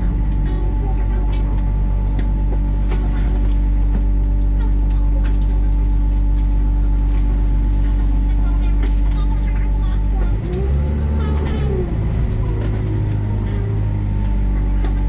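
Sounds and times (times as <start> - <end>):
bus engine humming: 0.0 - 15.0.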